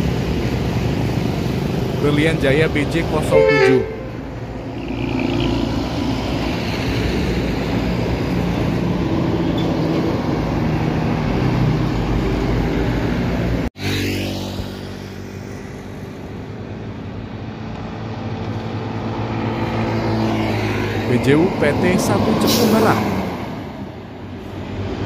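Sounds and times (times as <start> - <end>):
heavy diesel vehicles passing: 0.0 - 25.0.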